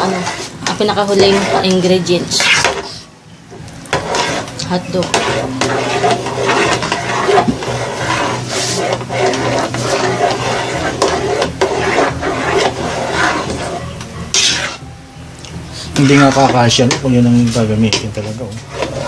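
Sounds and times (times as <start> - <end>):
stirring thick sauce: 0.0 - 3.0, 3.8 - 14.8, 15.8 - 19.0
spatula scraping metal pot: 0.0 - 14.9, 15.6 - 19.0.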